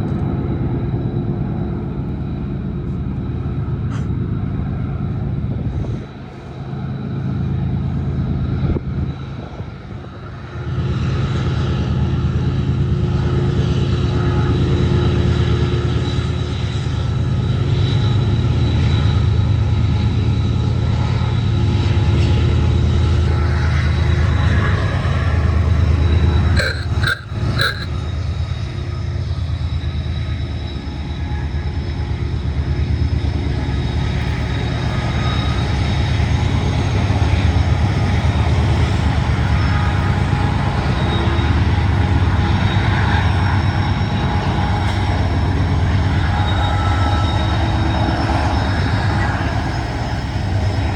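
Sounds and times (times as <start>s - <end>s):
heavy engine running: 0.0s - 50.9s.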